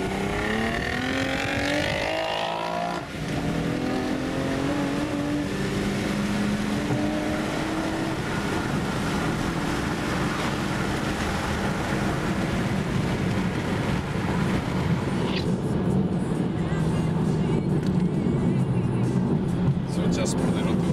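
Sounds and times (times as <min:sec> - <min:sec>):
car engine at highway speed: 0:00.0 - 0:20.9
road and wind noise: 0:00.0 - 0:20.9.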